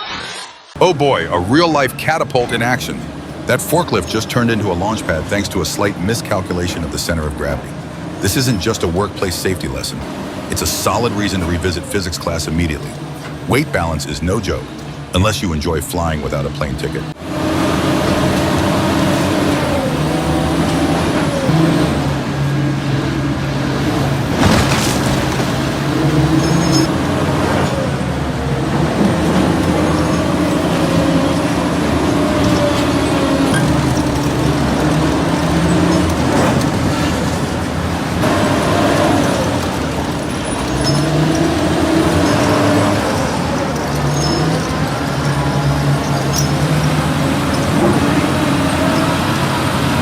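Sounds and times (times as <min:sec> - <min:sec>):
large machine engine running: 0:00.8 - 0:15.2, 0:16.2 - 0:50.0.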